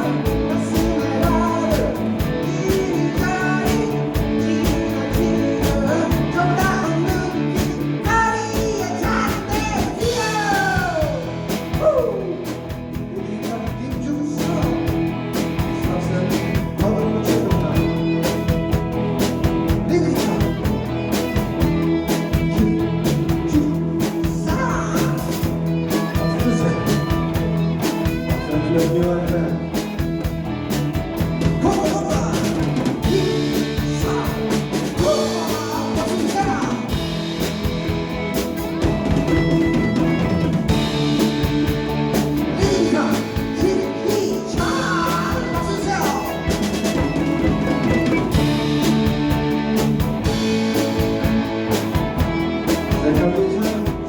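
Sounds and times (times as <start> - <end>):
person singing: 0.0 - 30.4, 31.2 - 49.2, 52.4 - 54.0
rock band playing: 0.0 - 54.0
sliding guitar lines: 0.0 - 54.0.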